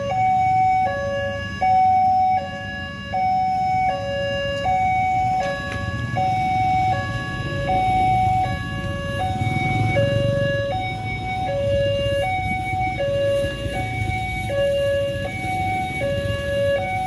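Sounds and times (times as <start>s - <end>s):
level crossing alarm two-tone: 0.0s - 17.0s
vehicle rumbling past: 2.7s - 17.0s.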